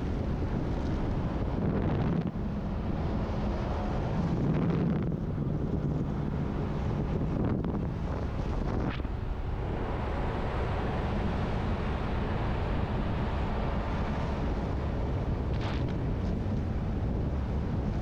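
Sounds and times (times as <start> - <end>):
vehicle and tyres rumbling: 0.0 - 18.0
wind rushing over microphone: 0.0 - 18.0.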